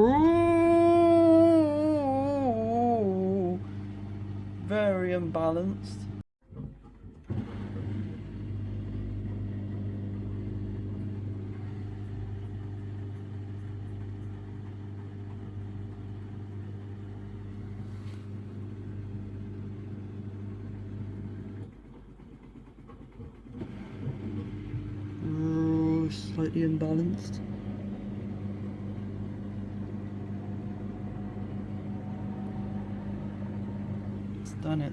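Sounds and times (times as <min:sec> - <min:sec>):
washing machine spin hum: 0:00.0 - 0:34.9.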